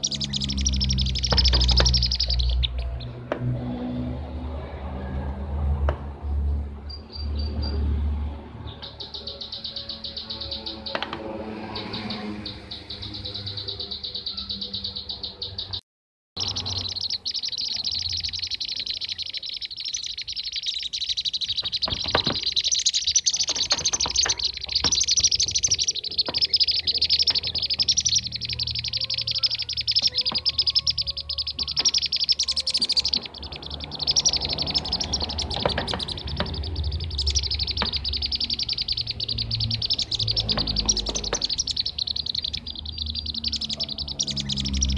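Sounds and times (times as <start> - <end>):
bee-eaters chattering calls: 0.0 - 3.1, 8.7 - 15.8, 16.4 - 44.9.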